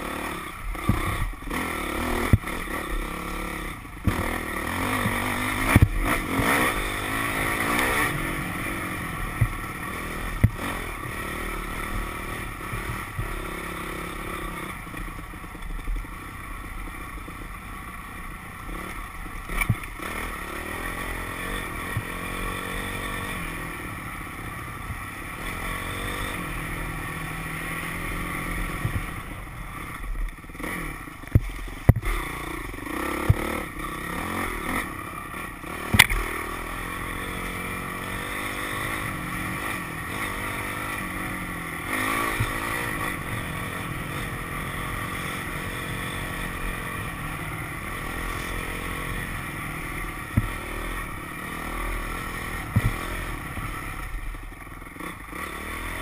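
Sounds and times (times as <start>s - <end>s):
dirt bike engine revving: 0.0s - 17.6s, 18.2s - 56.0s.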